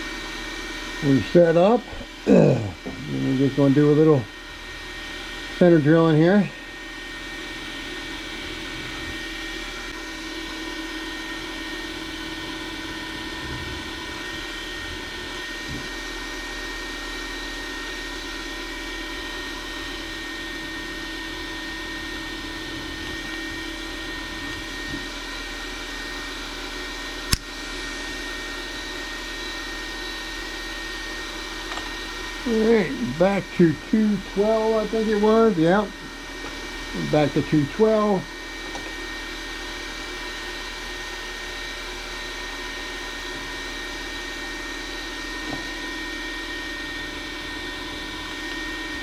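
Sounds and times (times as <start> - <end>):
machine spindle motor whine: 0.0 - 49.0.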